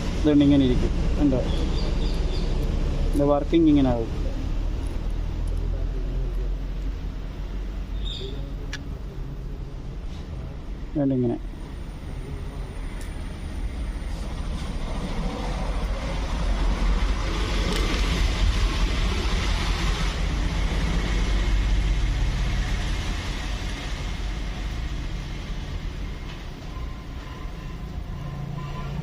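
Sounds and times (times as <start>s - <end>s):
passing vehicle engine rumble: 0.0s - 29.0s.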